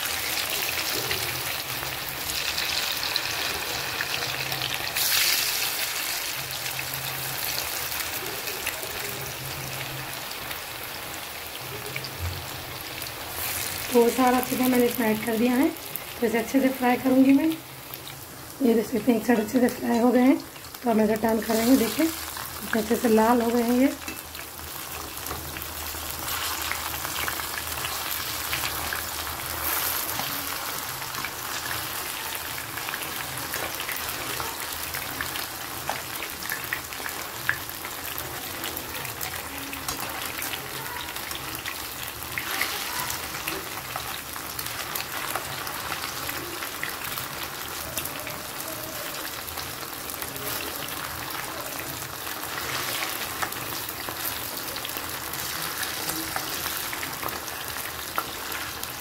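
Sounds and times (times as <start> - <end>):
chicken frying in hot oil: 0.0 - 59.0.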